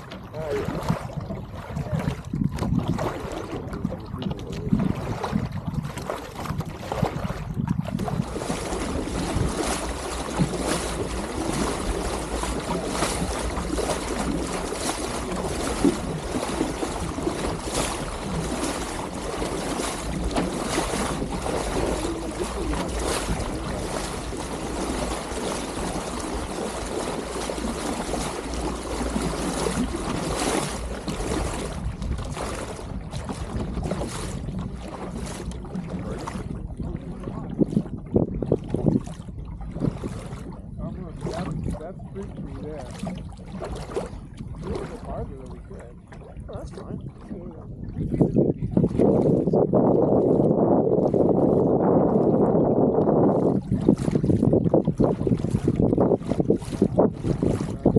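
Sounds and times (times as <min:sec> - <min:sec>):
water rushing and splashing: 0:00.0 - 0:57.9
wind buffeting microphone: 0:00.0 - 0:57.9.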